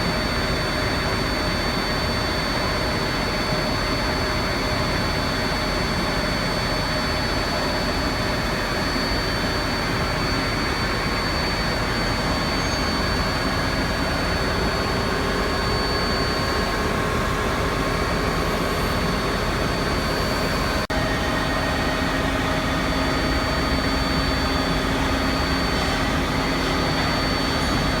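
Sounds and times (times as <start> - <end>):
boring mill hum and whine: 0.0 - 28.0.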